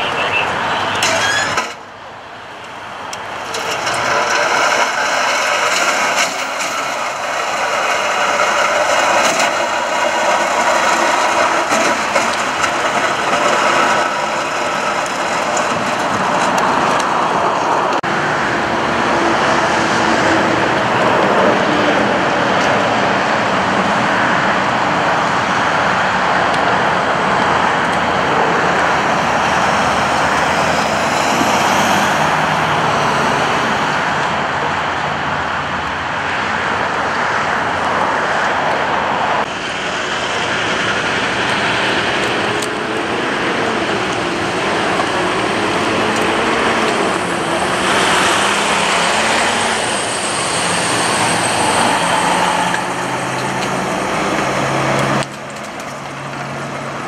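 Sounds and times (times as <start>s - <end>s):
cars passing at speed: 0.0s - 57.0s
freeway traffic: 0.0s - 57.0s.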